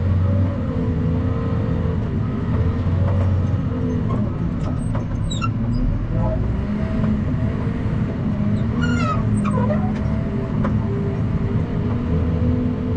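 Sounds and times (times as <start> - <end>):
truck engine drone: 0.0 - 12.9.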